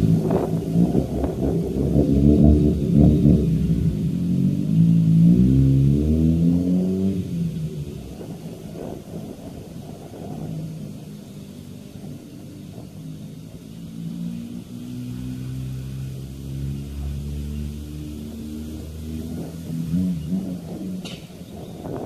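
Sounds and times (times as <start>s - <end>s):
rotary engine revving: 0.0s - 10.7s, 11.9s - 22.0s.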